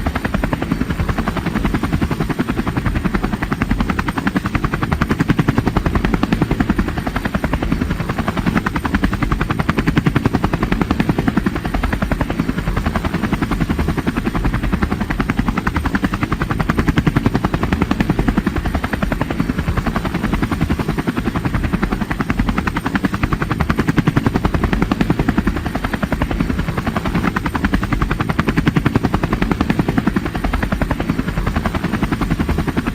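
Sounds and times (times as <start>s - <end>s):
helicopter rotor chop: 0.0s - 32.9s.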